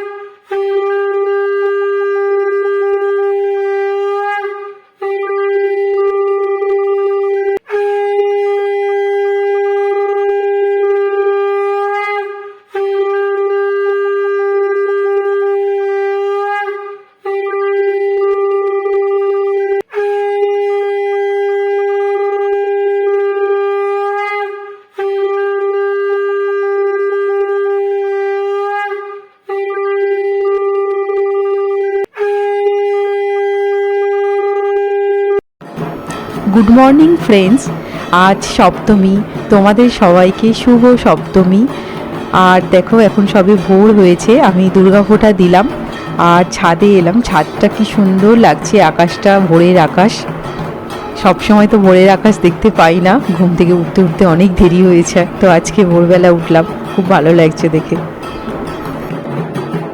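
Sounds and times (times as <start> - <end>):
conch shell blasts: 0.0 - 59.9.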